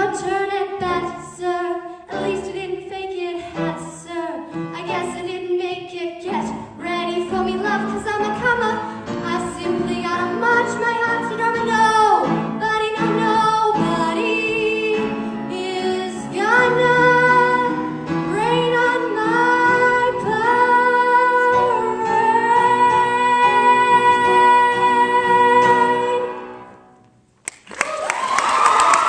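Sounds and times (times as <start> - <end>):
woman singing: 0.0 - 26.4.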